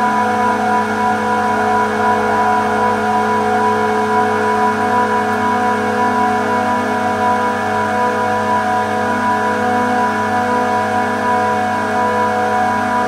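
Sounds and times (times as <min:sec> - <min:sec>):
refrigeration compressors humming: 0:00.0 - 0:13.0.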